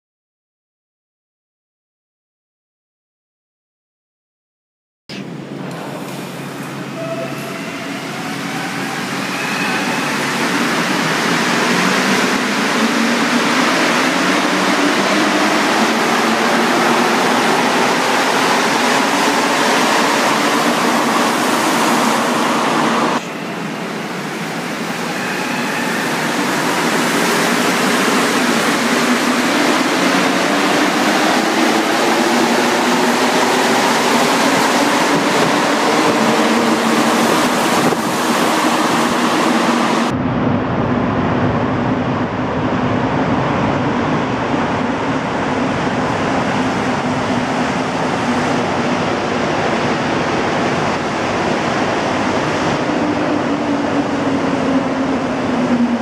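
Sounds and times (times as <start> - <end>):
train running noise: 5.2 - 56.0.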